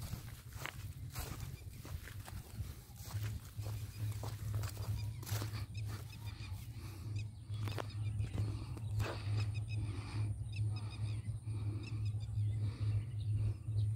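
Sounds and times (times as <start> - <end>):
low pulsing rumble: 0.0 - 13.9.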